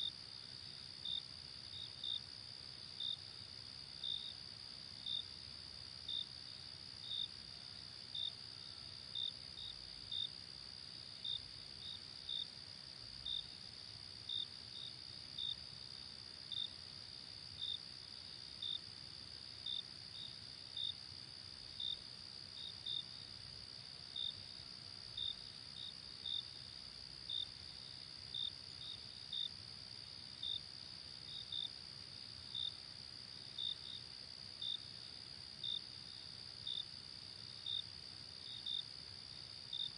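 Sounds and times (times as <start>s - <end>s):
insect chirps: 0.0s - 39.9s.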